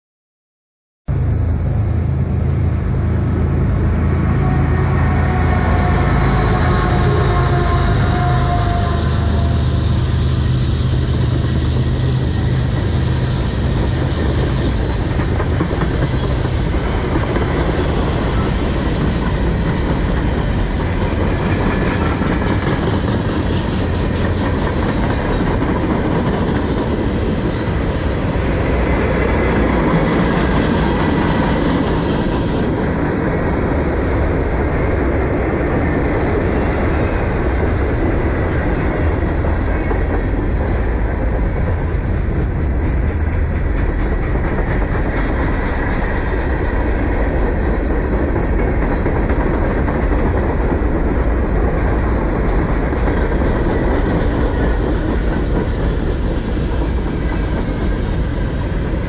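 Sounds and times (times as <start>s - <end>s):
freight train wheels rumbling: 1.1s - 59.0s.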